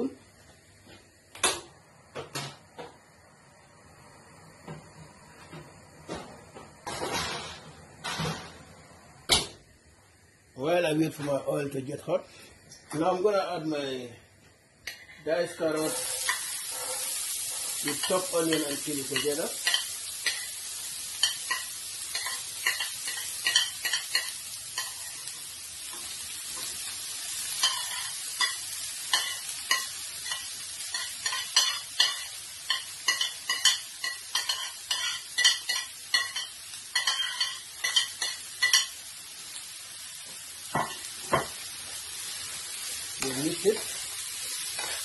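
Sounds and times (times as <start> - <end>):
vegetables sizzling in oil: 0.0 - 45.0.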